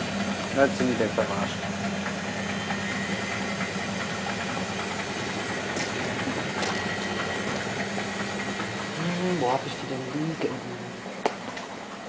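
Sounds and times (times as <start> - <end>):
washing machine rumbling: 0.0 - 12.0.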